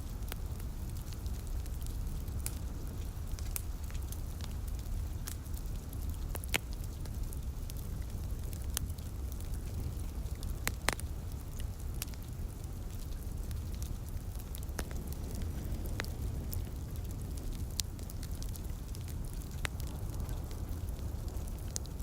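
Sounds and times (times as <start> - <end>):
light rain patter: 0.0 - 22.0
wood fire crackling and popping: 0.0 - 22.0.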